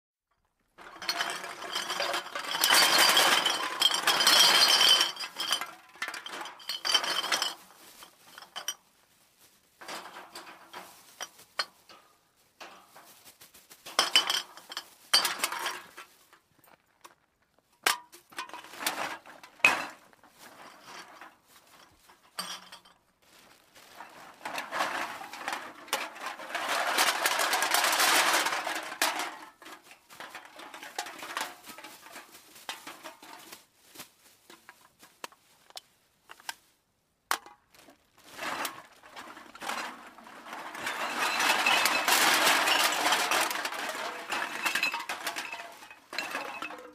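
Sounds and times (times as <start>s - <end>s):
metal cans clattering: 0.7s - 8.8s, 9.8s - 13.2s, 13.9s - 16.2s, 17.8s - 23.0s, 24.0s - 33.6s, 37.3s - 46.9s.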